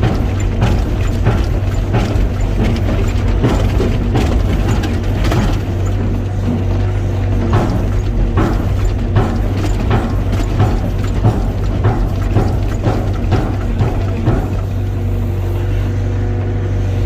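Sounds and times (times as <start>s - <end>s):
sharp metallic clicks and knocks: 0.0s - 15.2s
heavy machine engine running: 0.0s - 17.0s.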